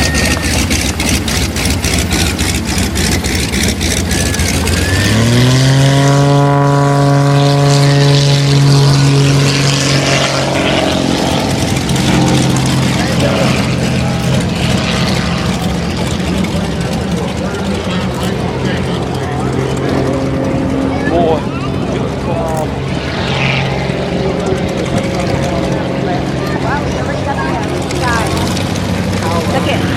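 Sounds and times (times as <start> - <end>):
propeller airplane engine: 0.0 - 29.9.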